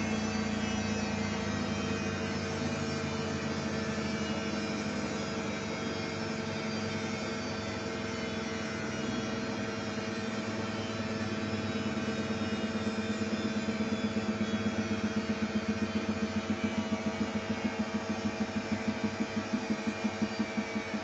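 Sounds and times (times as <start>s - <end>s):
rhythmic pulsing: 0.0s - 21.0s
washing machine spinning: 0.0s - 21.0s.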